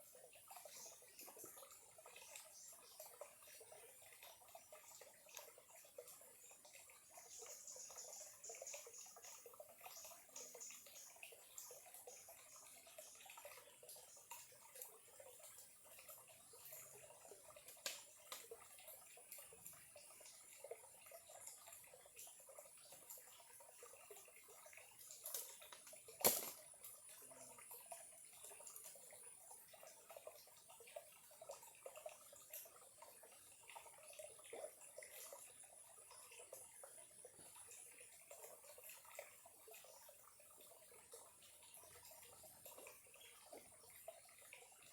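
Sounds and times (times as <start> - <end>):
stream trickling: 0.0 - 44.9
water drips and splashes: 0.0 - 44.9.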